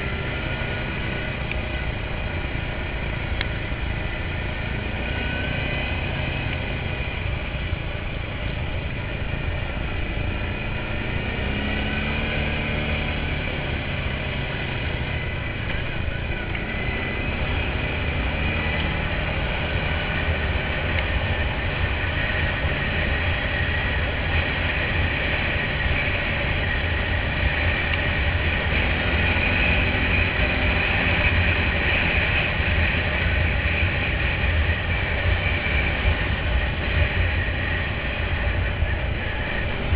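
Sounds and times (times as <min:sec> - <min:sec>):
high whine: 0:00.0 - 0:39.9
quad bike engine running: 0:00.0 - 0:39.9.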